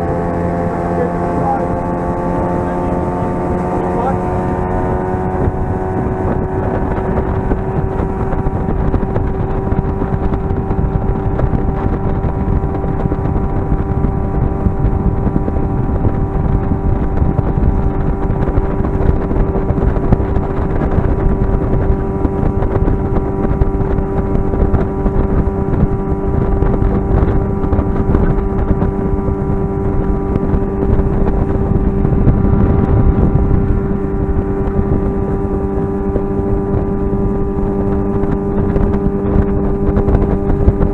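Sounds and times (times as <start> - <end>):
motorboat engine running: 0.0 - 40.9
water noise: 0.0 - 40.9
wind on microphone: 0.0 - 40.9.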